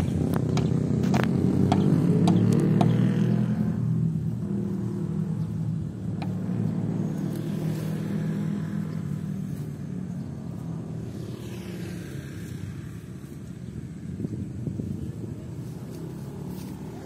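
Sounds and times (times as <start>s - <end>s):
motor engine humming: 0.0s - 17.0s.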